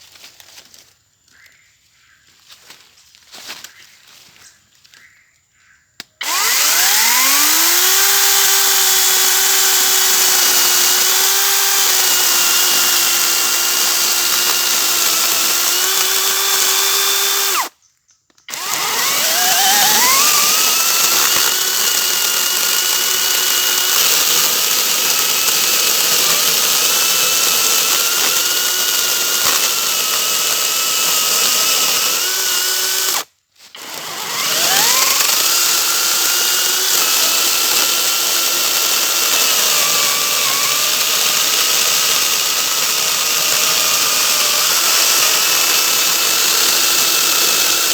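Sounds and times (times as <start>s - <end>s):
electric chainsaw motor whine: 6.2s - 17.8s, 18.5s - 47.9s.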